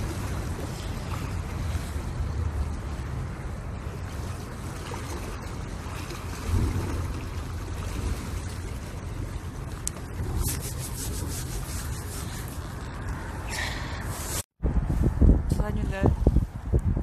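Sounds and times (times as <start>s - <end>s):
waves lapping on rocky shore: 0.0s - 14.5s
wind buffeting microphone: 0.0s - 17.0s.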